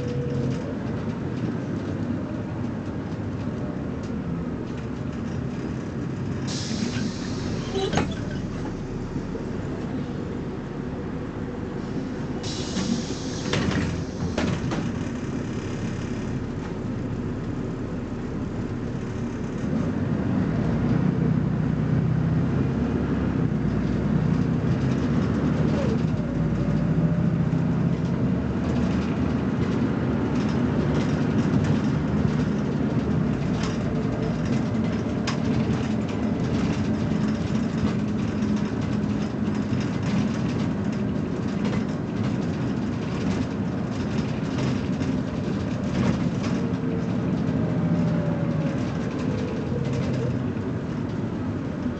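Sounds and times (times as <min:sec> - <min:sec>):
bus diesel engine accelerating: 0:00.0 - 0:51.9.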